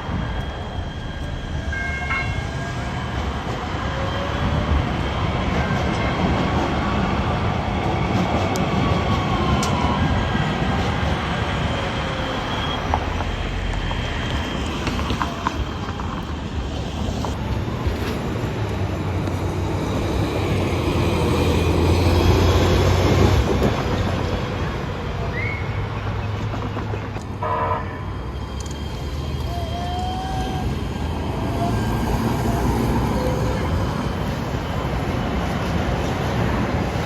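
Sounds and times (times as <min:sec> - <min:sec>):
light-rail train rumbling past: 0:00.0 - 0:37.0.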